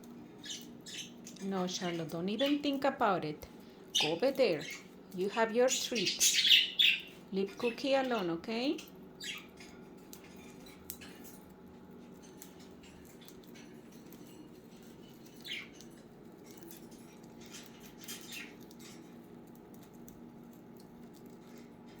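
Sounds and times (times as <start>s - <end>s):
birds clicking and scratching: 0.0s - 22.0s
steady low hum: 0.0s - 22.0s
budgies chirping: 0.1s - 11.4s, 12.4s - 19.2s.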